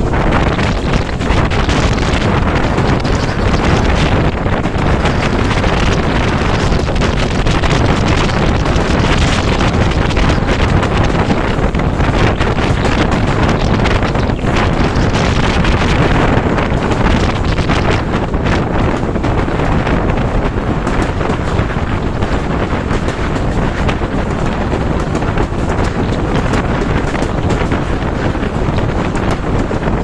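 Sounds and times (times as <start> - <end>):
train rumbling on track: 0.0 - 30.0
wind buffeting microphone: 0.0 - 30.0.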